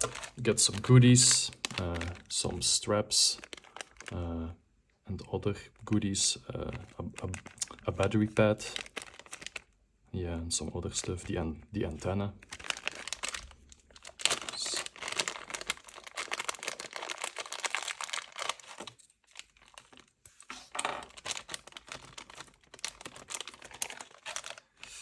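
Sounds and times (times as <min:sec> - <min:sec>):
packaging crinkling: 0:00.0 - 0:04.2, 0:05.8 - 0:09.8, 0:11.0 - 0:25.0.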